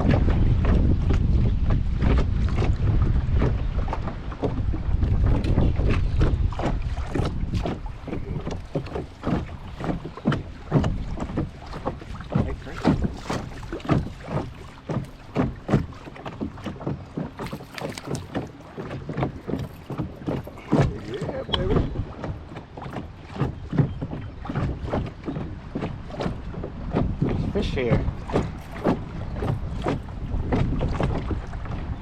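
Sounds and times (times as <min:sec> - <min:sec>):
water slapping boat hull: 0:00.0 - 0:32.0
wind rumbling on microphone: 0:00.0 - 0:32.0.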